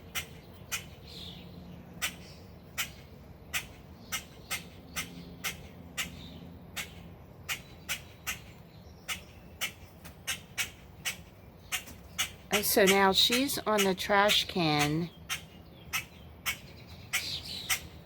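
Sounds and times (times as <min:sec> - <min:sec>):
bird squawking: 0:00.0 - 0:01.2, 0:02.0 - 0:18.0.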